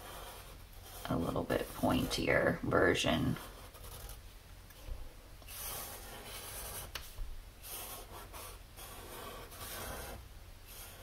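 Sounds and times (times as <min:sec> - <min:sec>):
marker scratching on paper: 0:00.0 - 0:02.5, 0:03.1 - 0:04.2, 0:05.5 - 0:11.0.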